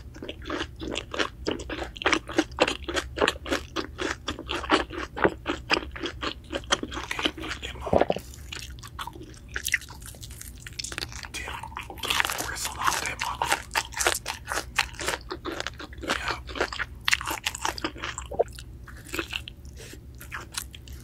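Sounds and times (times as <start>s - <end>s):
fried chicken crunching: 0.1s - 21.0s.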